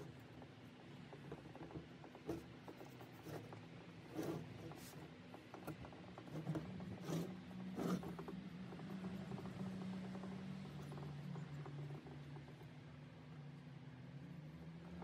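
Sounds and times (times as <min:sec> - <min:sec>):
rag rubbing on metal: 0:00.0 - 0:12.6
small knocks: 0:00.0 - 0:13.6
low steady hum: 0:00.0 - 0:15.0.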